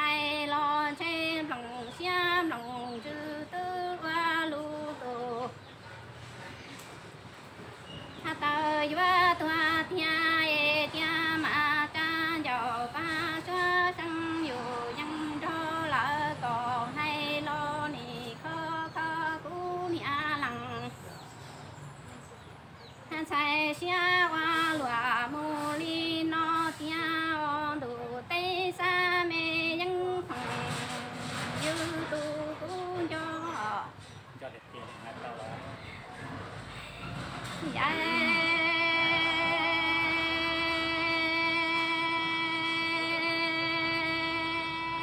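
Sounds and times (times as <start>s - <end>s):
woman singing unaccompanied: 0.0s - 5.8s, 8.1s - 21.2s, 22.9s - 34.0s, 37.6s - 45.0s.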